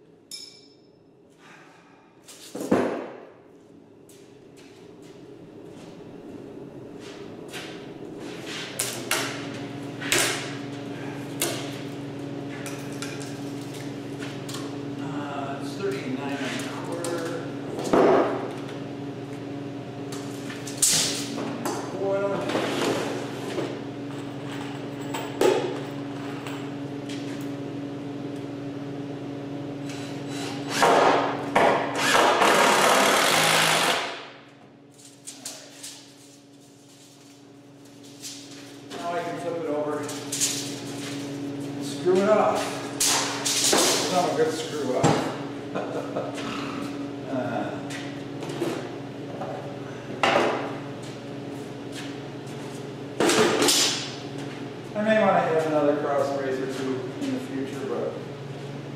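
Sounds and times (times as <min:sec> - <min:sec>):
machine humming: 0:03.8 - 0:58.9.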